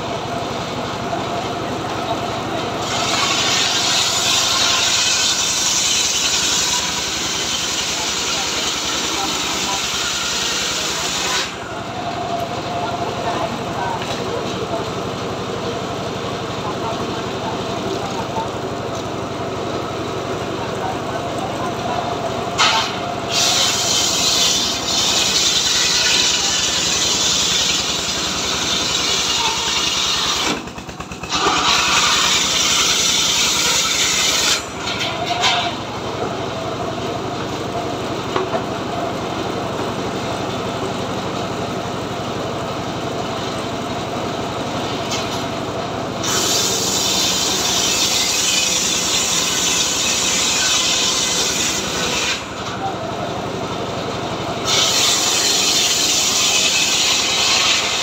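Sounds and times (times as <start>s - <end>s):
circular saw cutting logs: 0.0s - 58.0s
engine running steadily: 0.0s - 58.0s.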